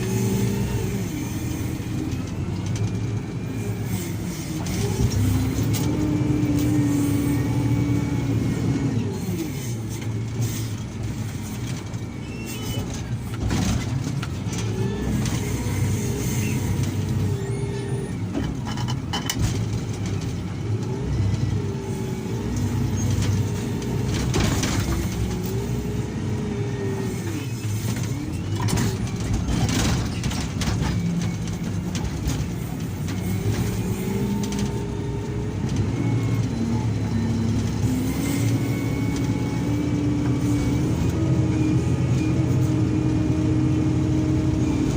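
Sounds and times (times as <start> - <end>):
heavy machinery diesel engine: 0.0 - 44.9.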